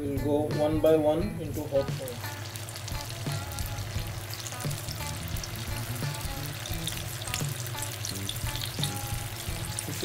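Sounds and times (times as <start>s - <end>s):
background music: 0.0s - 10.0s
food sizzling in hot oil: 1.6s - 10.0s.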